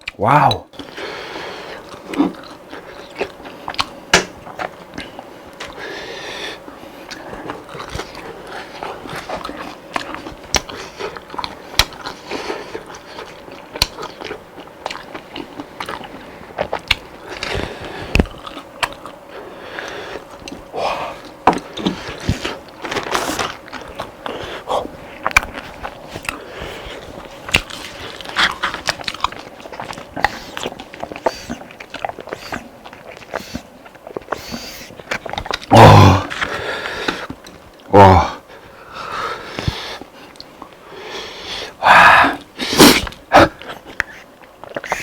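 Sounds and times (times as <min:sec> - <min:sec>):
chewing crispy fried food: 0:00.0 - 0:45.0.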